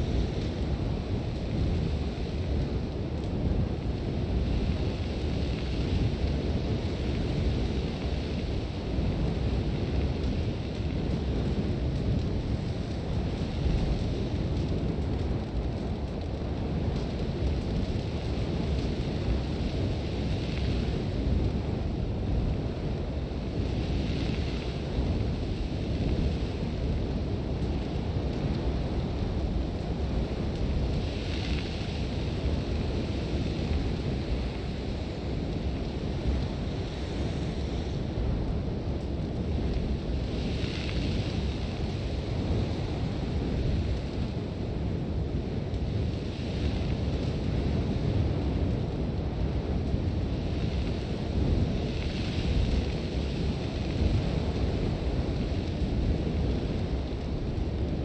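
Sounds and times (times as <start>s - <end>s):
strong wind rumbling: 0.0s - 58.0s.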